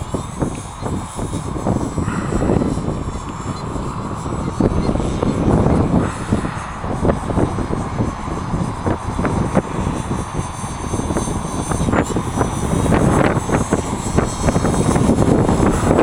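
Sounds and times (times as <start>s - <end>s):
model helicopter rotor whine: 0.0s - 16.0s
wind buffeting microphone: 0.0s - 16.0s.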